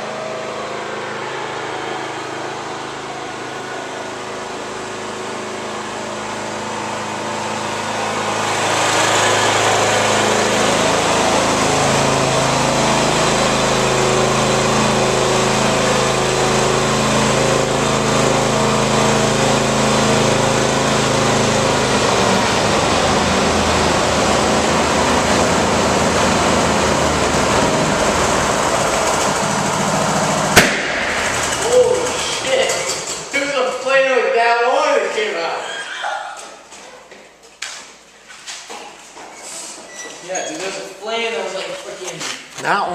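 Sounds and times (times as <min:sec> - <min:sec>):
lawn tractor engines running: 0:00.0 - 0:36.7, 0:37.3 - 0:42.9.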